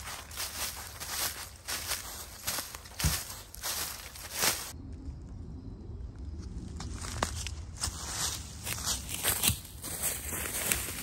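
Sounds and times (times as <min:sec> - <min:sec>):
footsteps through dry leaves: 0:00.0 - 0:04.8, 0:06.8 - 0:11.0.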